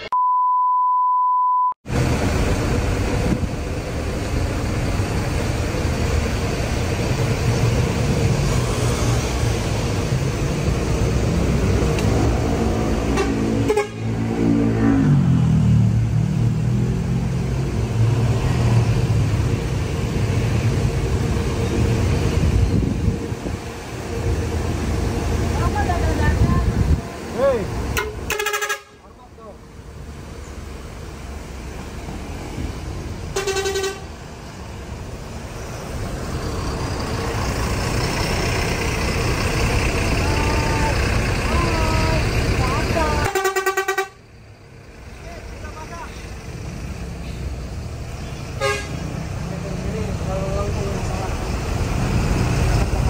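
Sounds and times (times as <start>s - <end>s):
bus diesel engine running: 1.9s - 14.5s, 15.1s - 53.0s.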